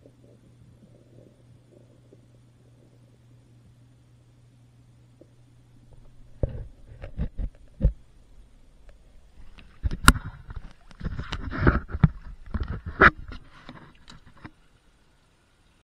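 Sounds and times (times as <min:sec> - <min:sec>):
faint low hum: 0:00.0 - 0:15.8.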